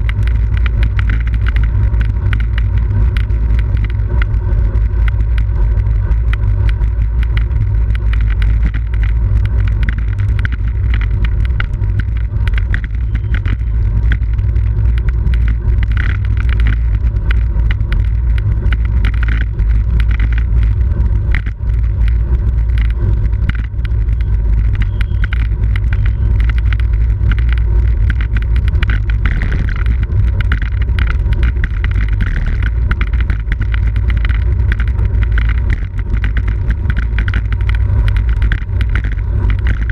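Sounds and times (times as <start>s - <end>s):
small clicks and rattles: 0.0s - 39.9s.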